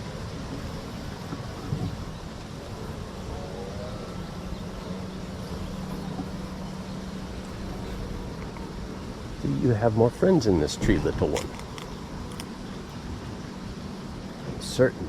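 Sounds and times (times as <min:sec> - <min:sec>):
low even hum: 0:00.0 - 0:15.0.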